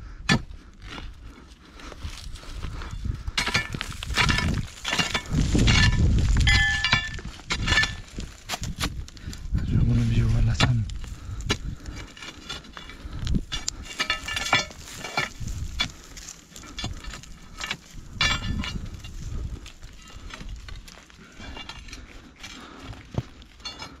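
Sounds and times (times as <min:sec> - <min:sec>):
crowbar scraping against rock: 0:03.3 - 0:09.1, 0:10.0 - 0:24.0.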